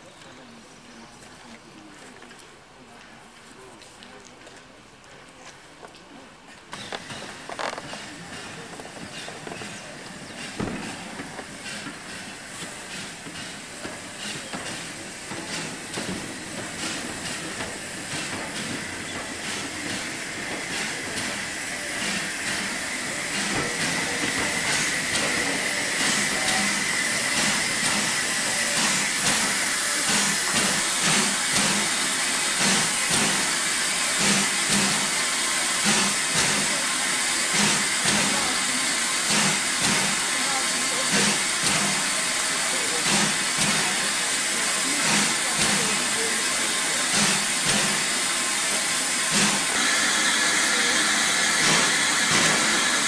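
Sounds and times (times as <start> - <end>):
steam locomotive running: 5.8 - 53.0
steam hissing: 7.0 - 53.0.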